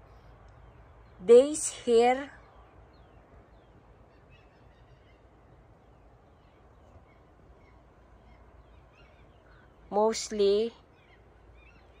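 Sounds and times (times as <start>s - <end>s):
distant bird chirps: 0.0s - 12.0s
steady background hiss: 0.0s - 12.0s.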